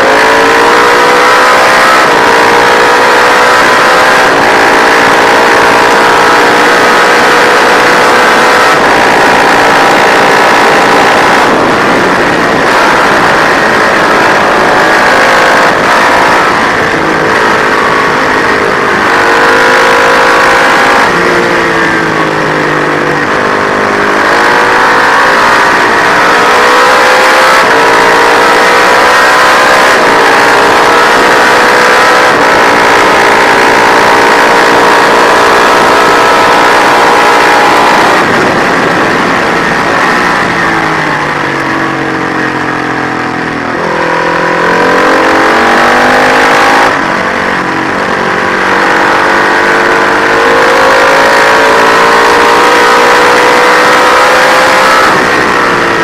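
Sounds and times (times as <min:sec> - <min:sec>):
racing motorcycle engine revving: 0:00.0 - 0:56.0.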